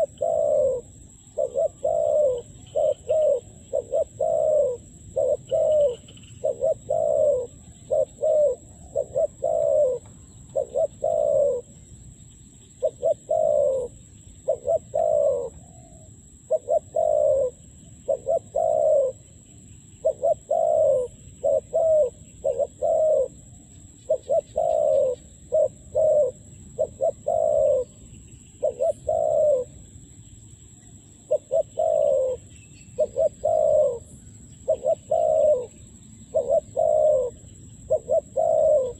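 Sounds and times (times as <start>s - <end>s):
dove cooing: 0.0s - 11.8s, 12.8s - 19.4s, 20.0s - 29.8s, 31.3s - 38.9s
faint high-pitched whine: 0.0s - 38.9s.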